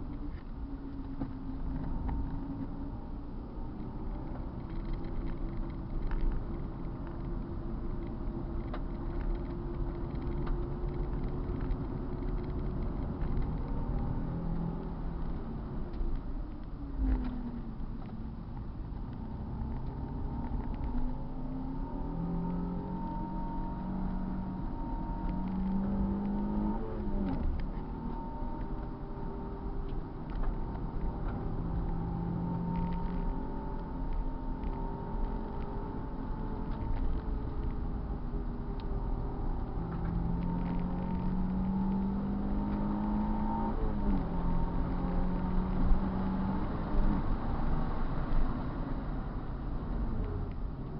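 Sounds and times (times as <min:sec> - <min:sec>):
car engine accelerating: 0:00.0 - 0:50.9
road and wind noise: 0:00.0 - 0:50.9.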